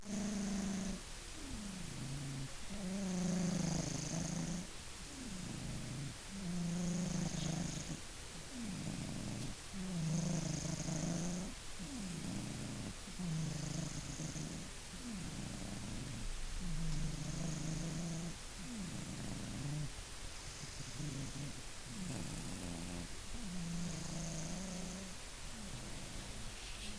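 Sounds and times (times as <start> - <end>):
cat snoring: 0.0 - 26.9
faint high hiss: 0.0 - 26.9.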